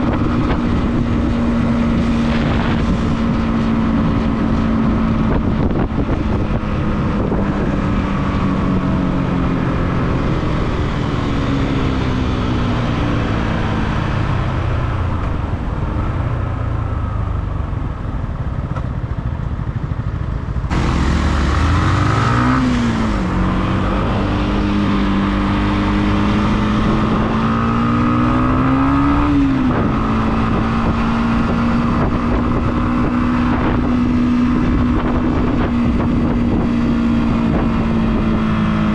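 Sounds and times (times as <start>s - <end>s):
motorcycle engine revving: 0.0s - 14.9s, 19.6s - 38.9s.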